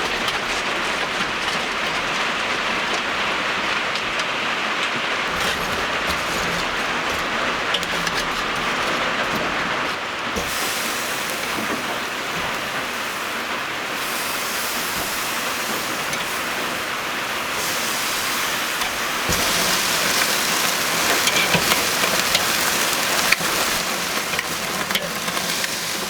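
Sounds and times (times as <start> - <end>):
steady rain hissing: 0.0 - 26.0.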